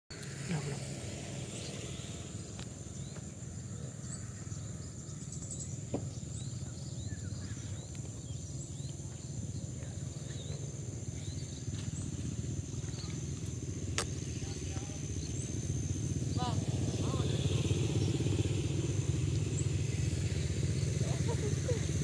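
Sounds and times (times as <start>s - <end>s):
insect drone: 0.1s - 22.0s
bird chirps: 2.9s - 22.0s.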